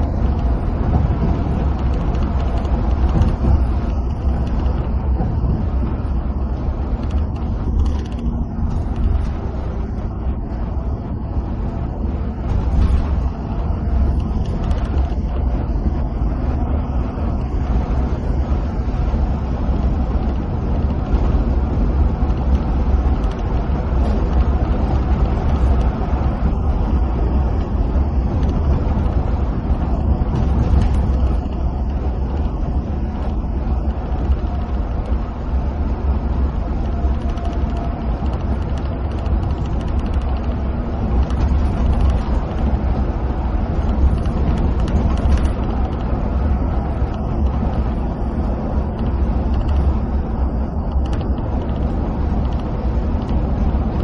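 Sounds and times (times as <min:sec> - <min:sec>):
bus engine rumble: 0:00.0 - 0:54.0
tyre and road noise: 0:00.0 - 0:54.0.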